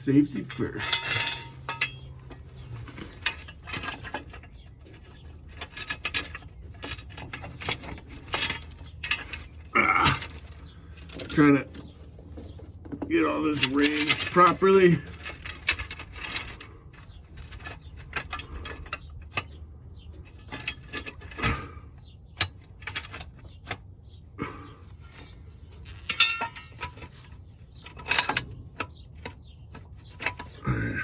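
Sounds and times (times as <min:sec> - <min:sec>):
metallic clanks and knocks: 0:00.0 - 0:31.0.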